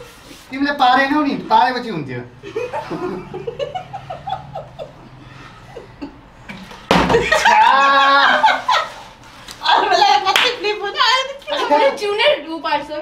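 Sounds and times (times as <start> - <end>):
loud voices and laughter: 2.1 - 12.6.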